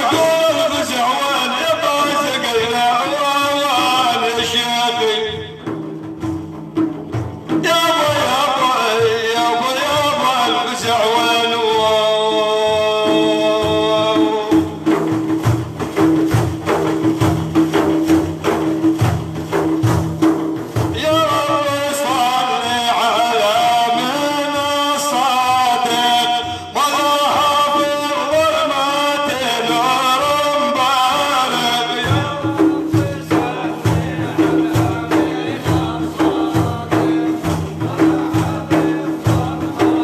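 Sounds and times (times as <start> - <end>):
man singing devotional song: 0.0 - 5.9, 7.5 - 16.4, 20.6 - 40.0
hand drum percussion: 0.0 - 40.0.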